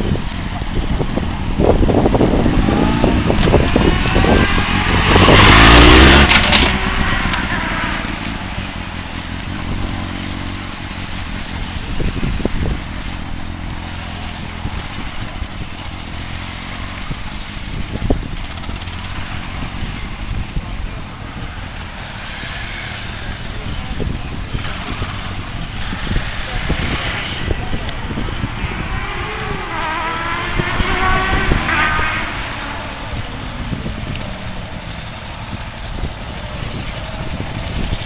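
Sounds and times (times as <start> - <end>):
motorcycle engine passing: 0.0 - 38.0.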